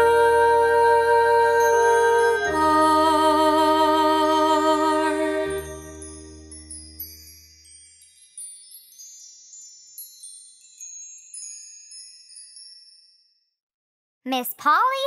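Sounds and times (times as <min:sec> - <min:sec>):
gentle lullaby: 0:00.0 - 0:13.6
high tinkling chimes: 0:01.4 - 0:13.6.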